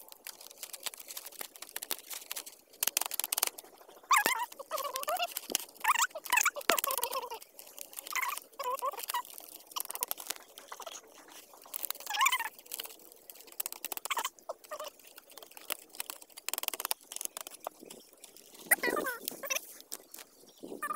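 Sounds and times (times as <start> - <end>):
bamboo strips clicking and crackling: 0.0 - 20.9
gliding bird calls: 0.0 - 20.9.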